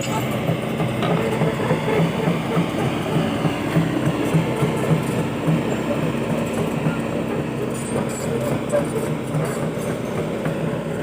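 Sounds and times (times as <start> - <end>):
excavator diesel engine pulsing: 0.0 - 11.0.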